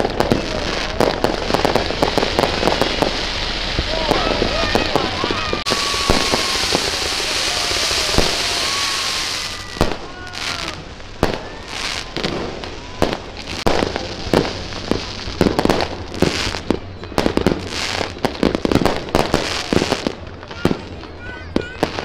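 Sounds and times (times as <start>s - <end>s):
firework bangs and crackles: 0.0s - 22.0s
fountain firework hissing: 0.0s - 22.0s
rising firework whistles: 0.0s - 22.0s.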